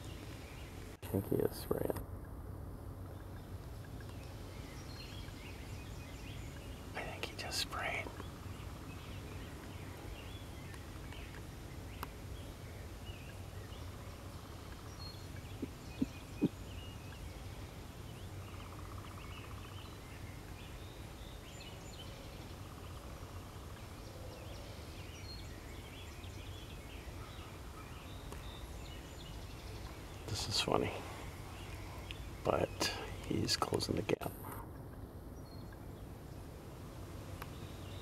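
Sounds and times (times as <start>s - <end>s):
low rumble of wind: 0.0s - 38.0s
faint bird calls: 3.0s - 36.5s.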